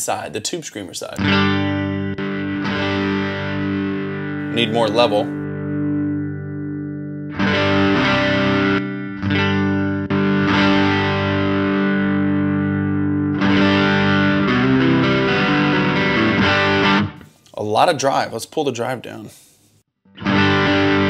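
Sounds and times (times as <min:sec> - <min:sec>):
distorted electric guitar chords: 0:01.2 - 0:17.3, 0:20.1 - 0:21.0.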